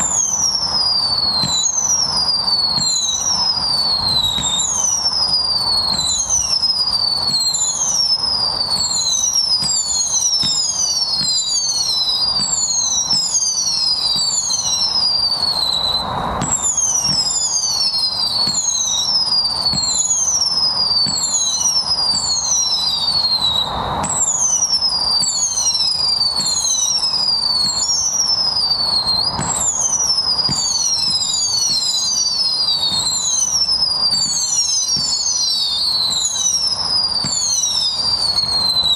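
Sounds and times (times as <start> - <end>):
firework launch pops: 0.0 - 38.9
whistling firework shots: 0.0 - 38.9.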